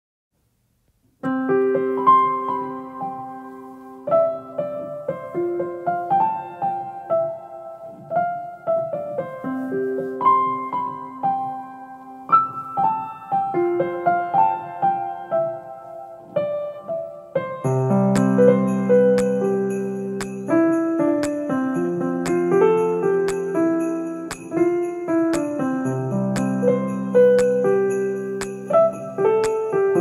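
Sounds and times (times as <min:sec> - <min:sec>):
gentle piano melody: 0:01.2 - 0:30.0.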